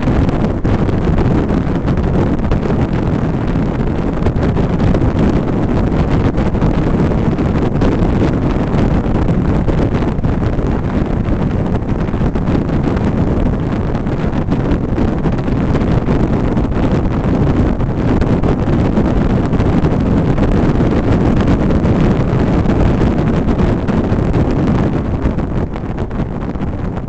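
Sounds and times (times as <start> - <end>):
car road noise: 0.0 - 27.0
wind buffeting microphone: 0.0 - 27.0.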